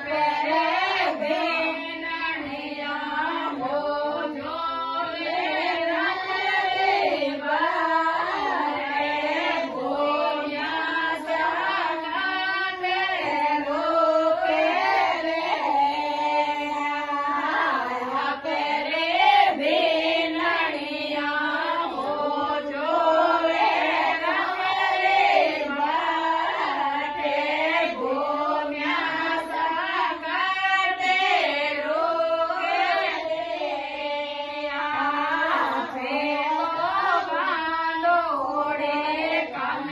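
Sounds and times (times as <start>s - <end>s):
woman singing devotional song: 0.0s - 39.9s.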